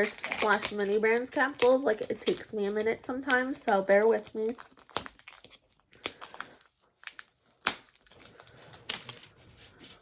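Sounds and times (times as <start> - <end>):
paper wrapping crinkling and tearing: 0.0 - 3.2, 3.8 - 10.0.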